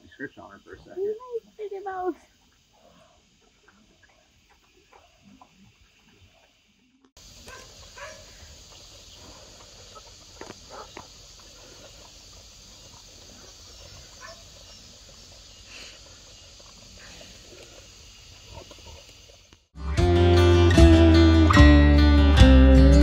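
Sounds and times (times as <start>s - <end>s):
insects chirring: 0.0s - 19.7s.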